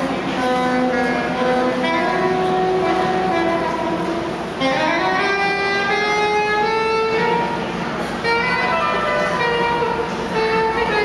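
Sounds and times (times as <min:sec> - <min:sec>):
slow melodic instrument notes: 0:00.0 - 0:11.0.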